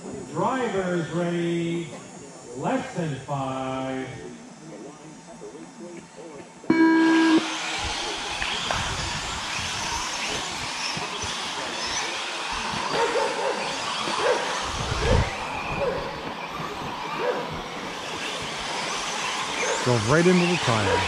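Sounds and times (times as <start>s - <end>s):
electric motor whine: 3.8s - 21.0s.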